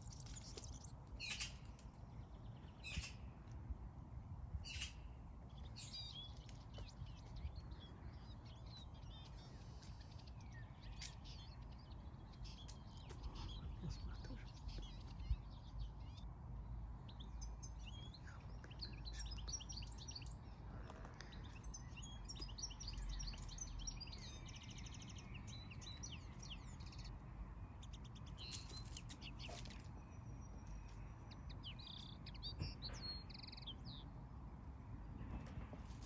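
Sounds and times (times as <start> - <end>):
songbirds chirping and singing: 4.6 - 35.0.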